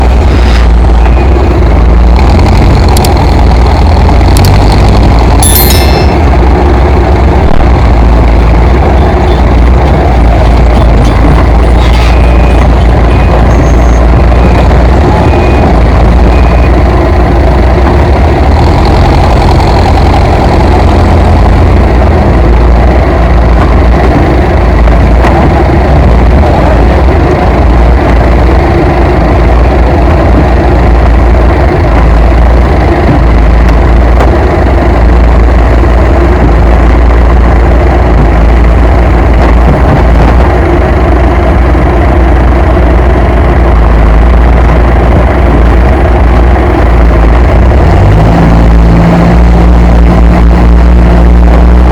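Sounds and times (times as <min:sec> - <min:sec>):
heavy vehicle engine running: 0:00.0 - 0:51.9.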